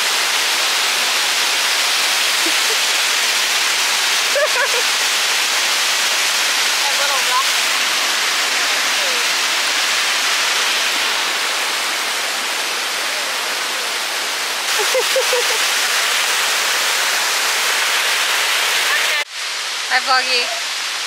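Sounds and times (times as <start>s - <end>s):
rushing waterfall: 0.0s - 21.0s.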